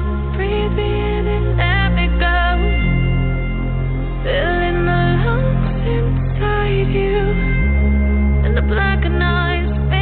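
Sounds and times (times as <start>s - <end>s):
background music with bass: 0.0s - 10.0s.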